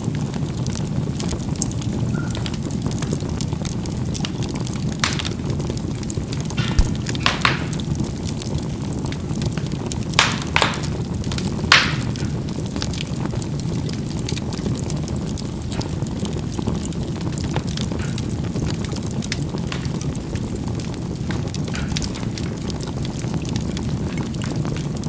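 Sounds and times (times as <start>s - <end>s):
charcoal crackling and popping: 0.0s - 25.0s
fire rushing: 0.0s - 25.0s.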